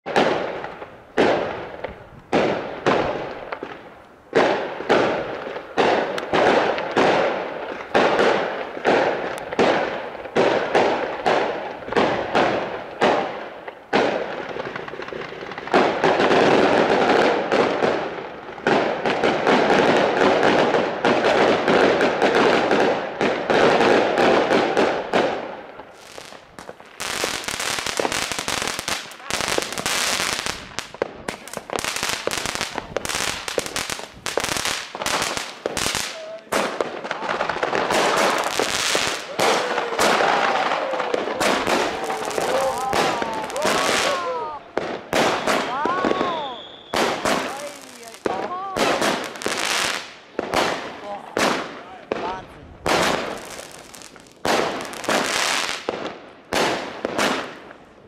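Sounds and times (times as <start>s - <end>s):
dense crackling: 0.3s - 20.9s, 25.2s - 56.0s.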